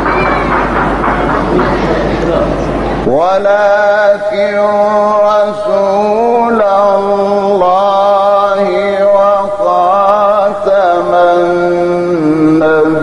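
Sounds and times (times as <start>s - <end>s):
man chanting melodically: 1.4s - 13.0s.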